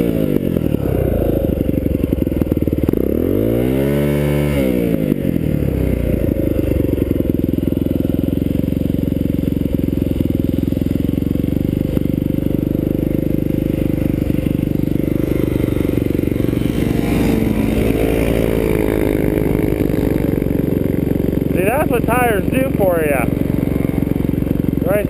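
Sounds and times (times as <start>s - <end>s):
dirt bike engine running: 0.0s - 25.0s
second dirt bike engine wavering: 0.0s - 25.0s.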